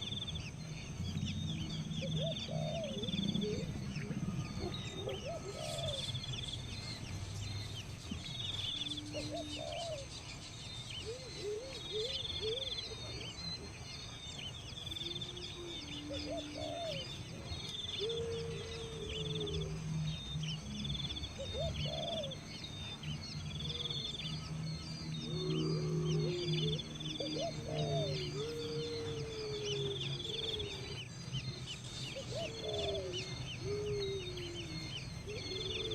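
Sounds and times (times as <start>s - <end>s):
birds trilling and chirping: 0.0s - 35.9s
low steady hum: 0.0s - 35.9s
low swooping bird notes: 0.0s - 35.9s.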